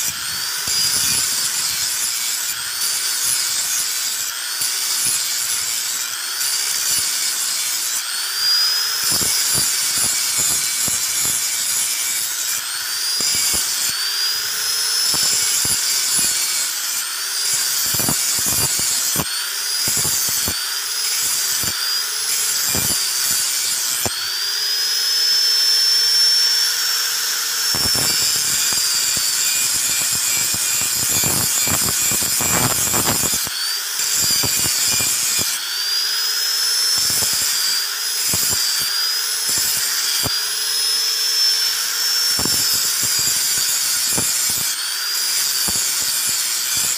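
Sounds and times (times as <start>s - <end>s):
angle grinder grinding steel: 0.0s - 46.9s.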